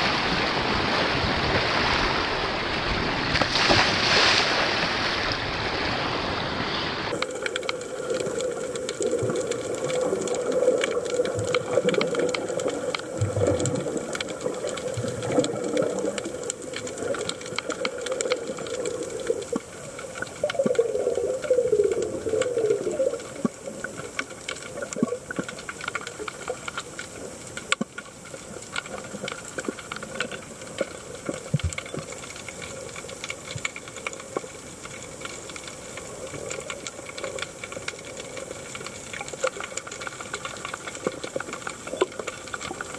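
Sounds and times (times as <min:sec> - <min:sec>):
water bubbling and gurgling: 0:00.0 - 0:42.9
underwater hiss with clicks: 0:07.1 - 0:42.9.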